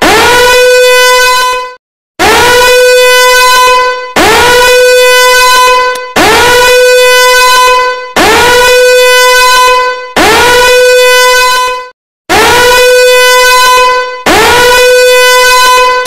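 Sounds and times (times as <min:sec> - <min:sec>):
alarm horn blasts: 0:00.0 - 0:16.0.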